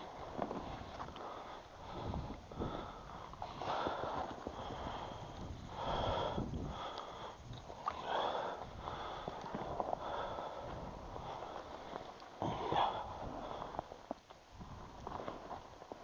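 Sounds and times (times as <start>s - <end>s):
person breathing heavily: 0.8s - 14.2s.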